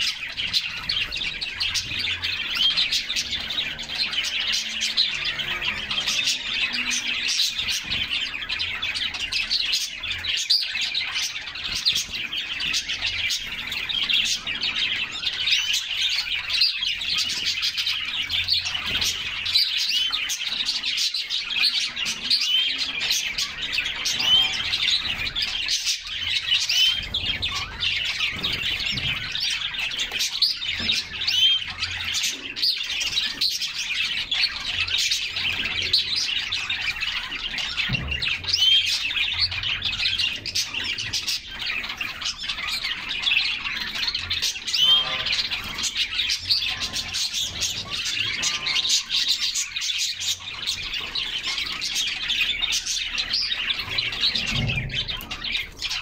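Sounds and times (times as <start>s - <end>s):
canaries chirping and singing: 0.0s - 56.0s.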